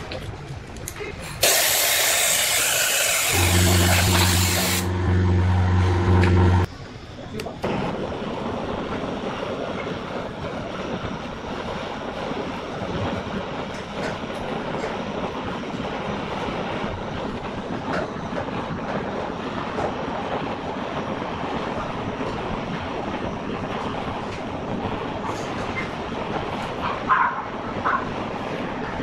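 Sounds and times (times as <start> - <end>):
blowtorch flame hissing: 1.0 - 5.0, 7.1 - 29.0.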